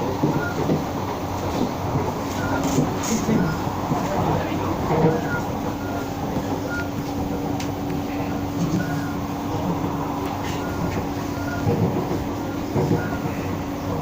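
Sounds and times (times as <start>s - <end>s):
constant hum: 0.0s - 14.0s
train running: 0.0s - 14.0s.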